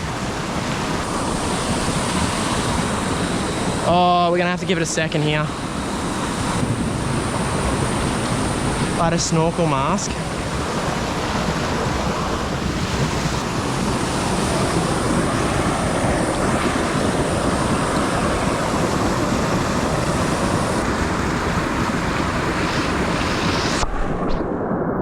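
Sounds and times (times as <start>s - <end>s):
creek water rushing: 0.0s - 23.3s.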